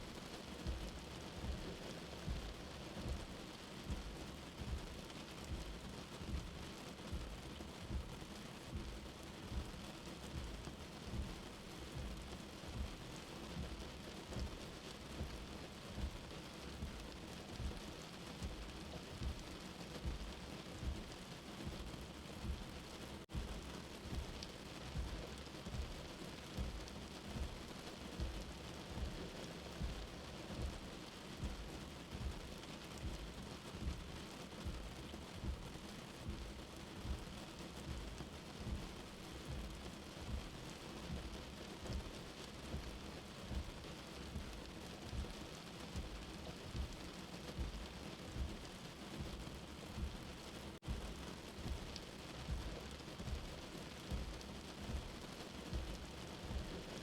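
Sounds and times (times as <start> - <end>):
soft heartbeat thumping: 0.0 - 57.0
steady rain: 0.0 - 57.0.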